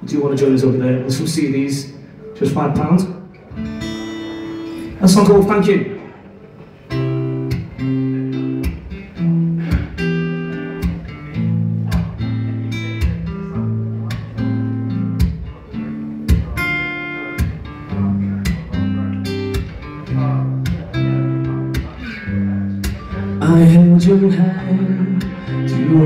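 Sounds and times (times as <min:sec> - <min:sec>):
acoustic guitar strumming: 0:02.1 - 0:26.0.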